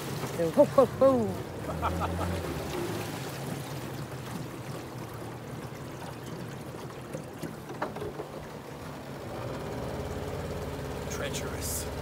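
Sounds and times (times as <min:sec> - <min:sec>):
outboard motor humming: 0:00.0 - 0:12.0
water rushing along boat hull: 0:00.0 - 0:12.0.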